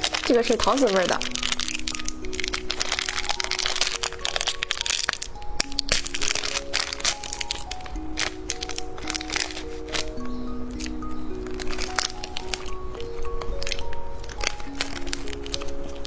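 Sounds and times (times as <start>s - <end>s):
background music: 0.0s - 16.0s
candy crunching: 0.0s - 16.0s.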